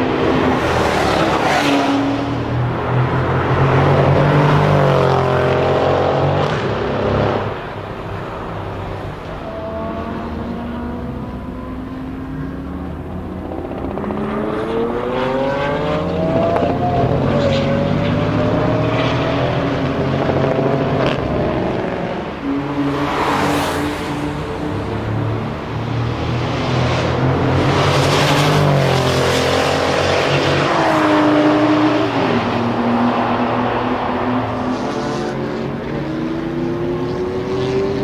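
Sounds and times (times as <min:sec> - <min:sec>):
loud rushing noise of car passing: 0:00.0 - 0:38.0.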